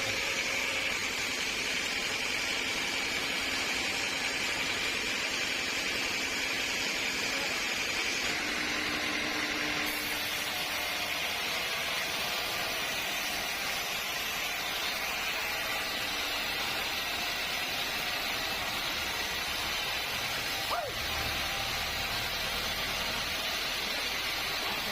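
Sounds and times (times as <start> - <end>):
sawmill machinery humming: 0.0 - 24.9.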